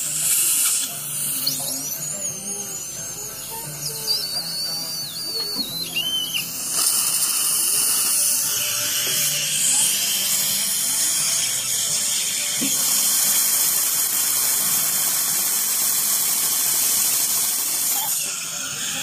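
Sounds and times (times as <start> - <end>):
dental suction watery hiss: 0.0 - 19.0.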